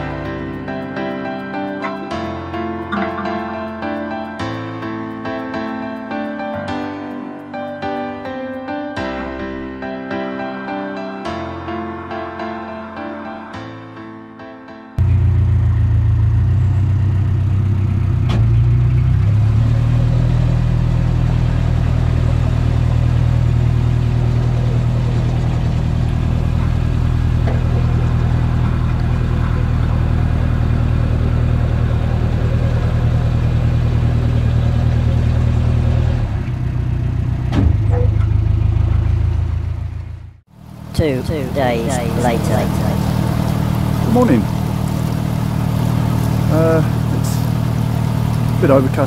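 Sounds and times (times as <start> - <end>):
boat engine running: 0.0 - 8.1, 15.0 - 49.0.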